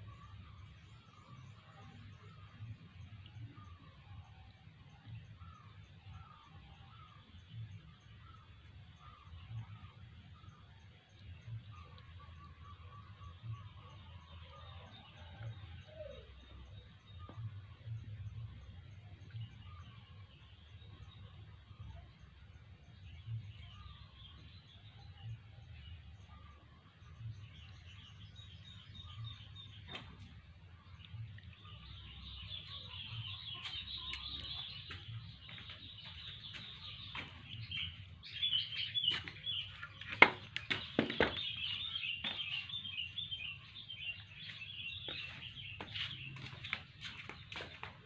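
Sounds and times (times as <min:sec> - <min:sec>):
small birds twittering: 0:00.0 - 0:48.0.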